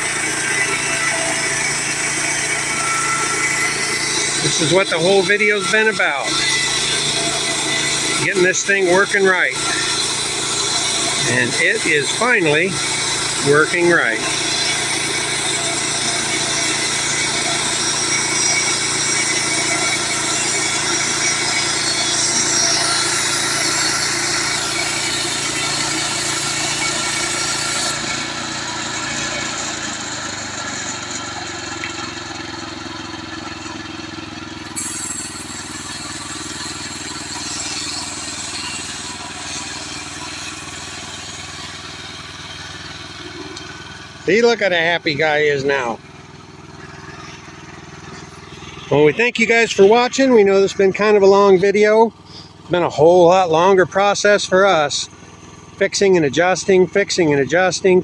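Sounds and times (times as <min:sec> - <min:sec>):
sawmill engine sawing log: 0:00.0 - 0:58.0.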